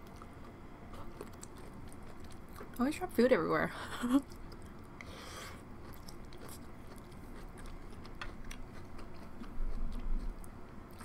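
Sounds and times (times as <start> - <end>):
person chewing: 0.0 - 2.8, 4.2 - 11.0.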